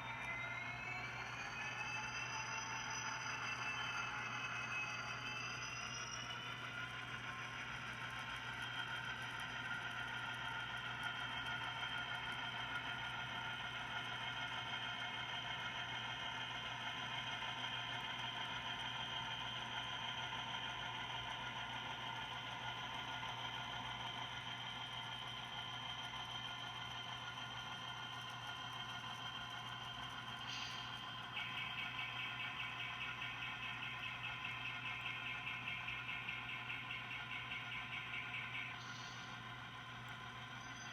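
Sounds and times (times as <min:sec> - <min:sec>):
model locomotive whirring: 0:00.0 - 0:40.9.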